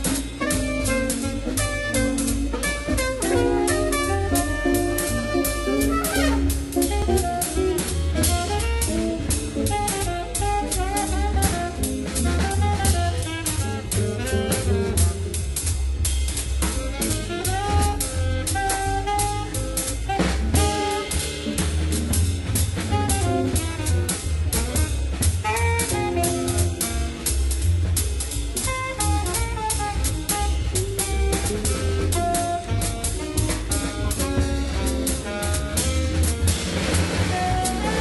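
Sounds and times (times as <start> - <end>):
music with drum beat and lead: 0.0 - 38.0.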